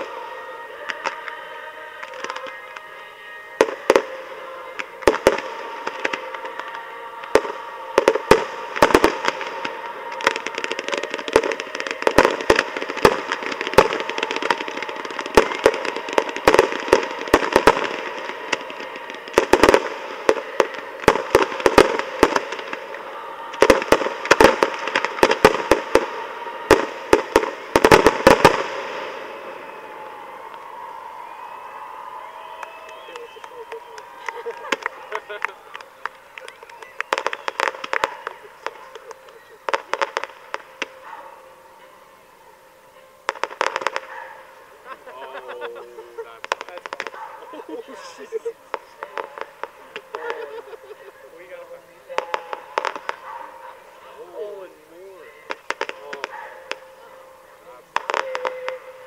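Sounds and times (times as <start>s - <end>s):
fireworks bangs: 0.0s - 2.9s, 3.5s - 41.9s, 43.2s - 59.0s.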